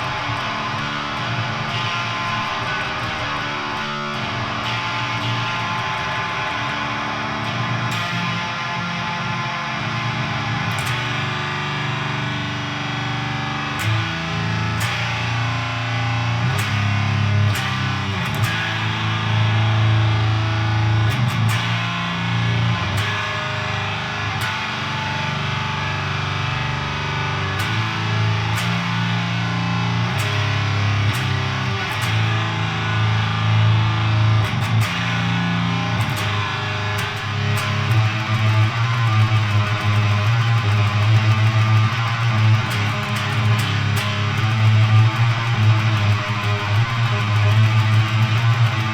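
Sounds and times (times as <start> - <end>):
distorted electric guitar chords: 0.0 - 48.9.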